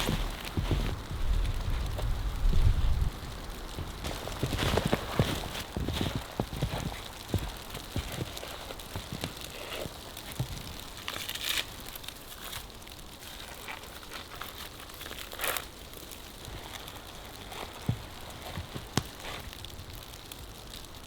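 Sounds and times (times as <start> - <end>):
footsteps crunching through snow: 0.0 - 19.7.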